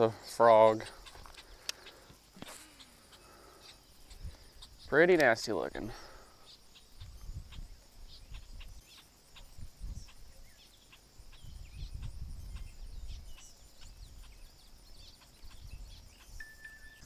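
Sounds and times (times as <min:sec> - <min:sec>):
bird chirps: 0:00.0 - 0:17.0
high insect drone: 0:00.0 - 0:17.0.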